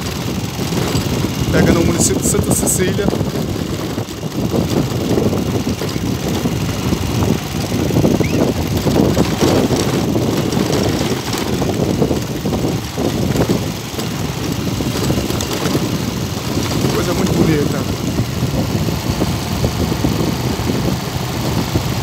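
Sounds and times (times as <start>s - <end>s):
vehicle running on dirt road: 0.0s - 22.0s
wind rumble on microphone: 0.0s - 22.0s.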